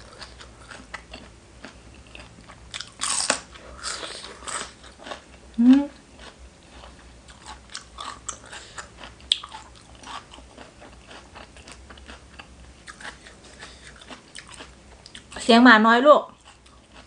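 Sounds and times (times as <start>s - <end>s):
chewing and crunching food: 0.0s - 15.5s, 16.2s - 17.0s.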